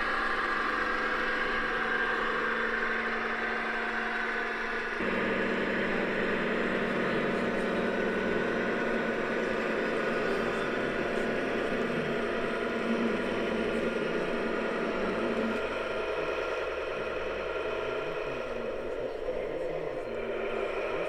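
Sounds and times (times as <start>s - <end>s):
model diesel locomotive engine hum: 0.0s - 21.0s.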